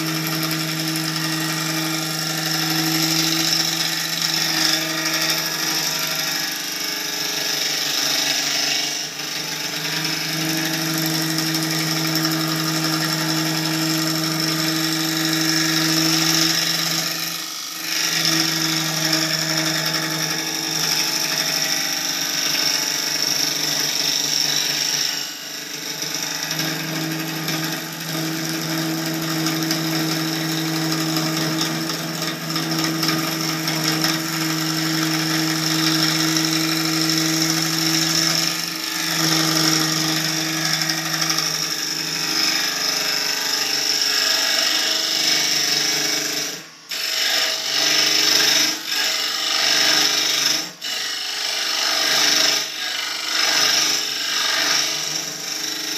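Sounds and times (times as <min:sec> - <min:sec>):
lathe tool cutting wood: 0:00.0 - 0:55.9.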